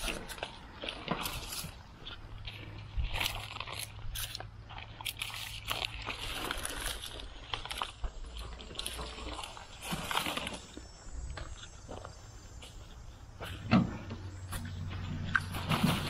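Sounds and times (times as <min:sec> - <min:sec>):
onions pulled from dry soil: 0:00.0 - 0:13.5.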